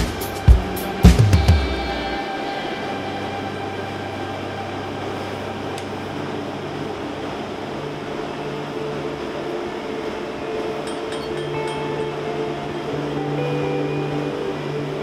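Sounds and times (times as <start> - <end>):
gas forge rushing: 0.0 - 15.0
soft background music: 0.0 - 15.0.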